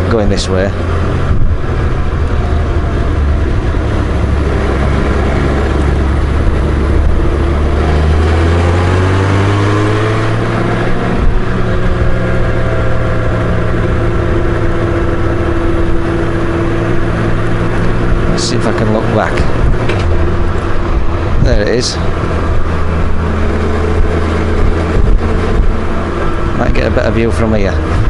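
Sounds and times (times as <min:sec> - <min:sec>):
motorcycle engine running: 0:00.0 - 0:28.0
wind and road noise: 0:00.0 - 0:28.0.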